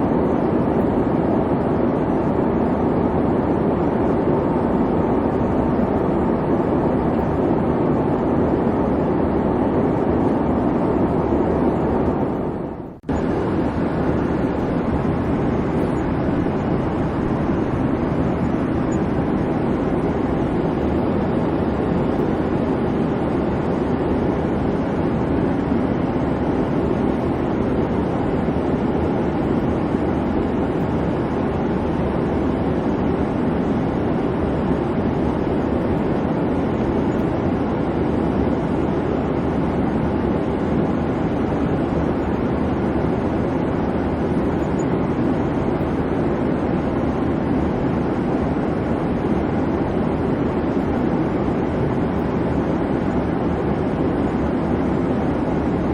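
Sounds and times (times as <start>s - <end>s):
airplane engine hum in cabin: 0.0s - 55.9s.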